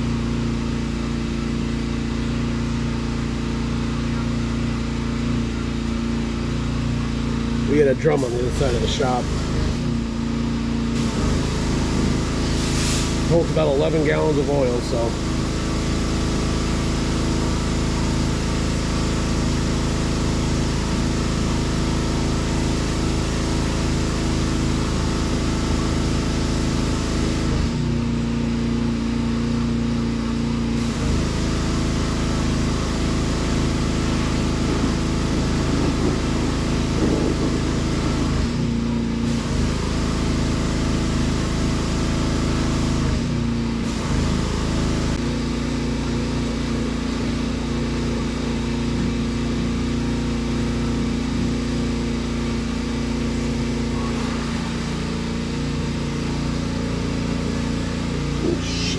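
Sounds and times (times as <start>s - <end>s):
motor droning: 0.0s - 58.9s.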